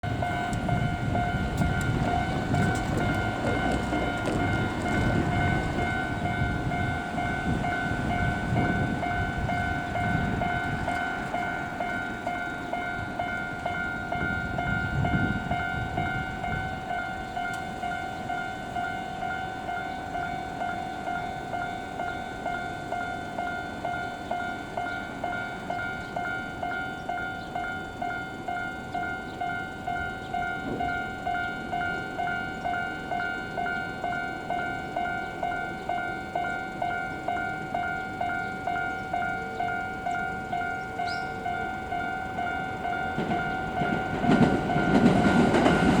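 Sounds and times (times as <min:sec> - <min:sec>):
level-crossing warning bell: 0:00.0 - 0:46.0
train rumbling past: 0:00.0 - 0:46.0.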